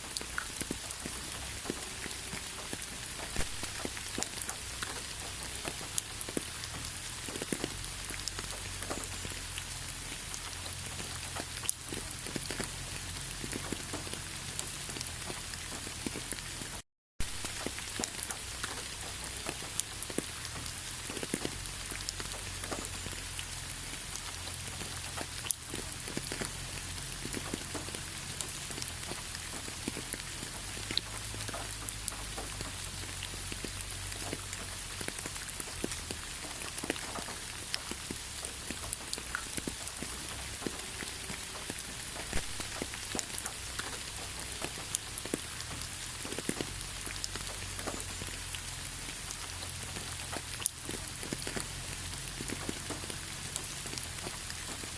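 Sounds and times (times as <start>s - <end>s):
raindrops ticking on surfaces: 0.0s - 54.9s
steady rain falling: 0.0s - 54.9s.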